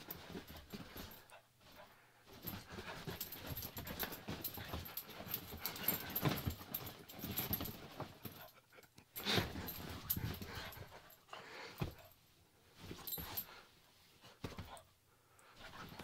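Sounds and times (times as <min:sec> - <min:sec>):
bedding scuffing and rustling: 0:00.0 - 0:08.6, 0:09.2 - 0:16.0.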